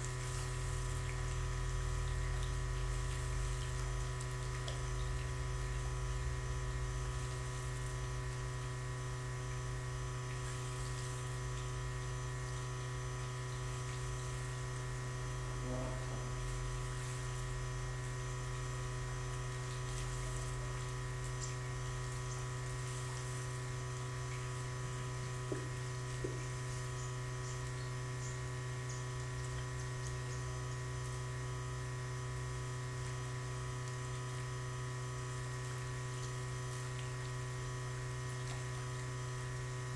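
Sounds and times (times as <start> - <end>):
electrical hum with steady tones: 0.0 - 39.9.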